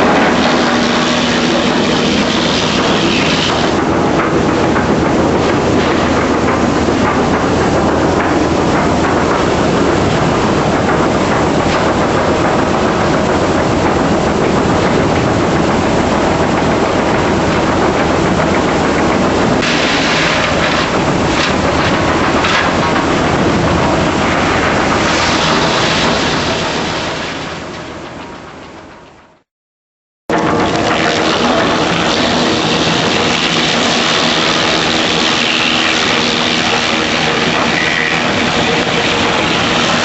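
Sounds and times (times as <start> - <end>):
wood chipper running: 0.0 - 29.2, 30.3 - 40.0.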